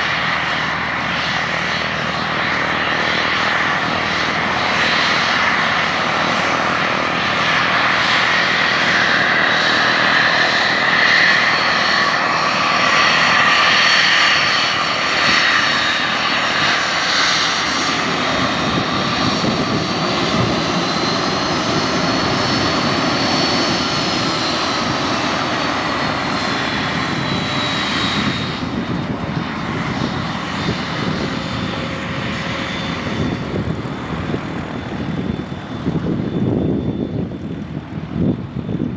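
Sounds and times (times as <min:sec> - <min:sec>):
airplane engine running: 0:00.0 - 0:38.9.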